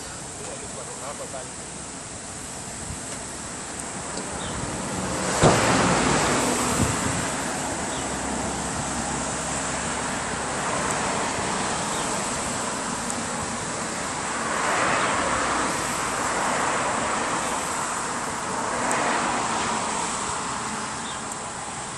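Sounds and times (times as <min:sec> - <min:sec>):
road traffic noise: 0:00.0 - 0:21.9
thin steady high hiss: 0:00.0 - 0:21.9
vehicles passing: 0:00.0 - 0:21.9.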